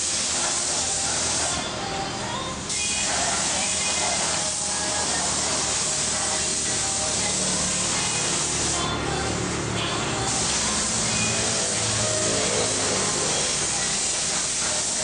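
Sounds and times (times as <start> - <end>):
spray gun hissing: 0.0 - 1.9, 2.7 - 15.0.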